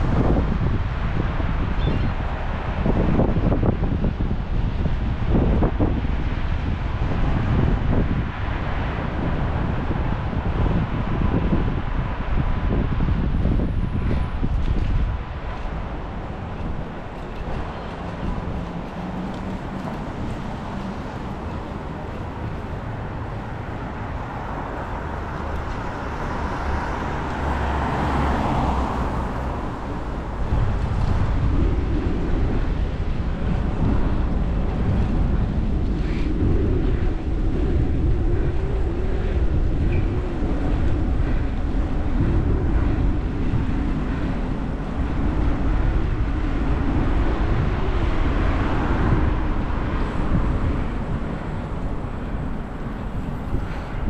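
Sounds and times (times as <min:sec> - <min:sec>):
road noise on wet street: 0:00.0 - 0:54.0
traffic noise: 0:00.0 - 0:54.0
wind buffeting microphone: 0:00.0 - 0:54.0.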